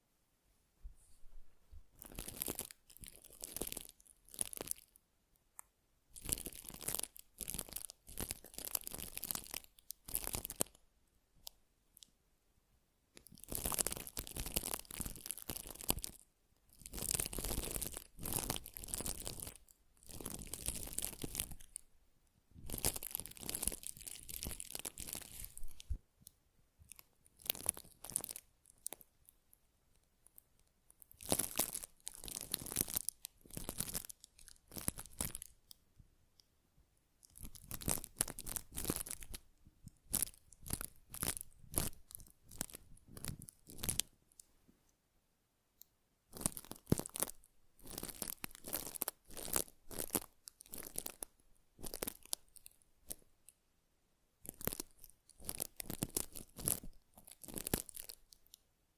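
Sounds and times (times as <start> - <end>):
crackly scratchy rustling: 0.9 - 5.0, 6.2 - 10.8, 13.2 - 21.9, 22.6 - 36.5, 37.2 - 44.9, 46.3 - 53.6, 54.4 - 58.6.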